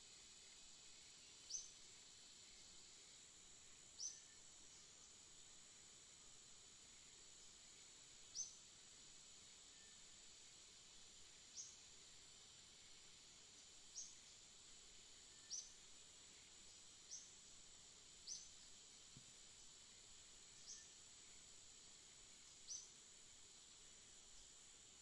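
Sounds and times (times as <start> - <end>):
steady high-pitched hiss: 0.0 - 25.0.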